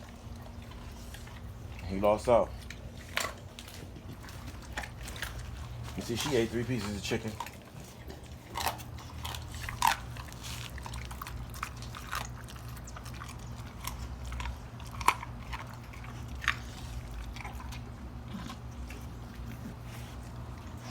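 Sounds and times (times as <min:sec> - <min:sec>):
dogs crunching bones: 0:00.0 - 0:20.9.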